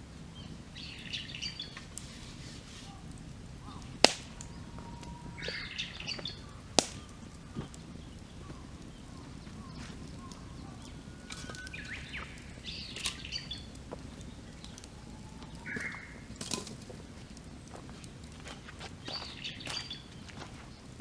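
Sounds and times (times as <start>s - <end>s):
birds chirping: 0.0s - 21.0s
campfire crackling and popping: 0.0s - 21.0s.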